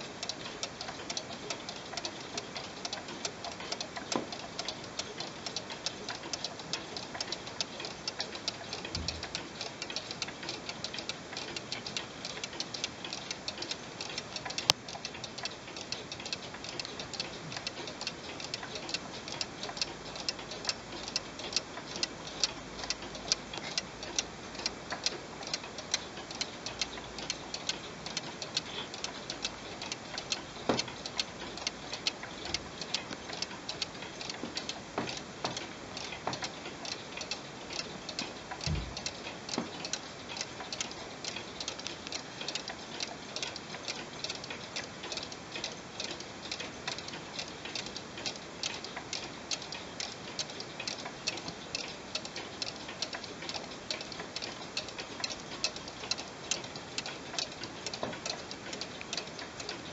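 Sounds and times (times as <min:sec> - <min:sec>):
cuckoo clock ticking: 0:00.0 - 0:59.9.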